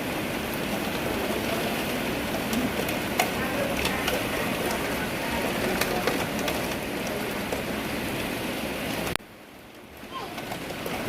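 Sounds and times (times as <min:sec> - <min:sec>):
raindrops tapping on surfaces: 0:00.0 - 0:11.0
steady rain falling: 0:00.0 - 0:11.0.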